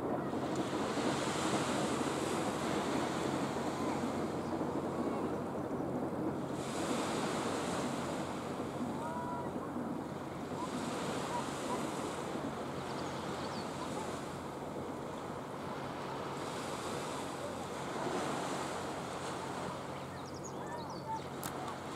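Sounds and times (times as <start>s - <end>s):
small waves breaking on beach: 0.0s - 21.9s.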